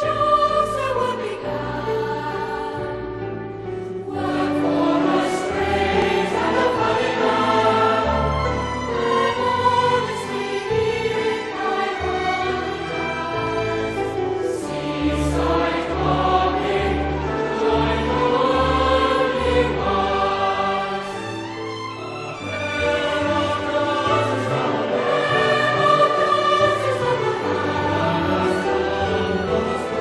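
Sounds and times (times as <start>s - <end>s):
choir singing held notes: 4.0s - 21.4s, 22.2s - 30.0s.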